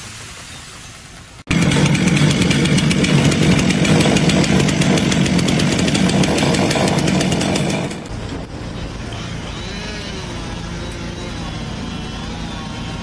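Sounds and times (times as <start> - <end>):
motor running with rattle: 1.5 - 13.0.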